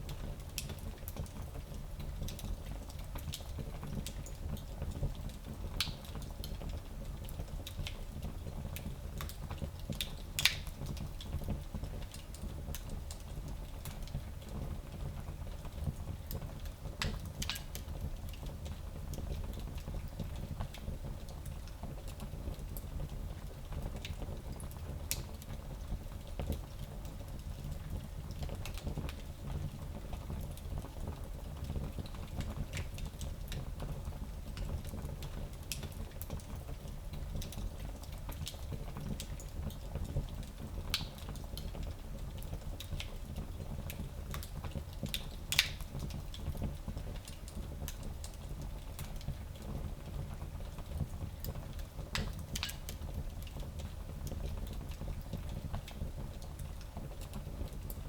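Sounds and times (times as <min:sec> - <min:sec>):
fire crackling and popping: 0:00.1 - 0:58.0.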